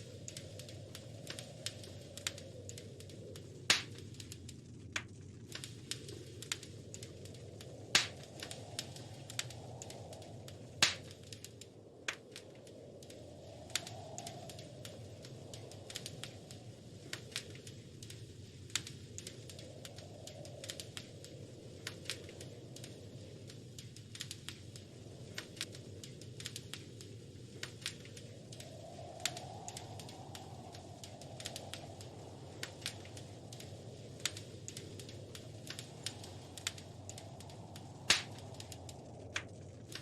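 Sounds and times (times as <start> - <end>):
fire popping: 0.0 - 40.0
wood fire crackling: 0.0 - 40.0.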